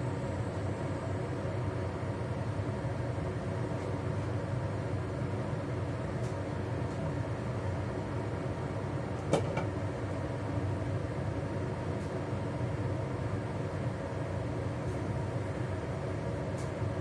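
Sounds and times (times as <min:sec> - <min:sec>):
range hood fan hum: 0:00.0 - 0:17.0.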